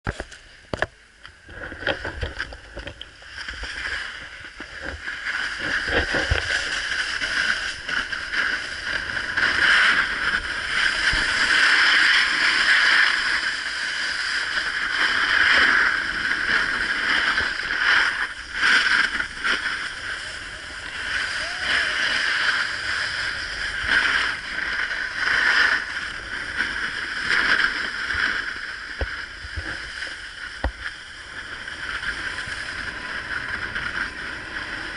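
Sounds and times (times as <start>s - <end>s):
snowboard scraping on snow: 1.5s - 34.9s.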